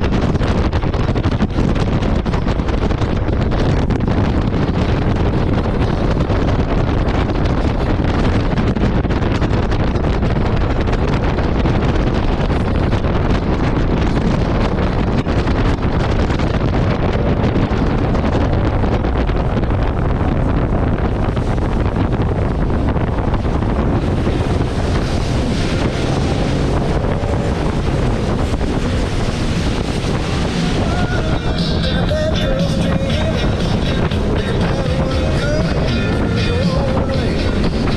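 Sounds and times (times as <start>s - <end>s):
jet ski running: 0.0s - 37.9s
water noise: 0.0s - 37.9s
wind buffeting microphone: 0.0s - 37.9s.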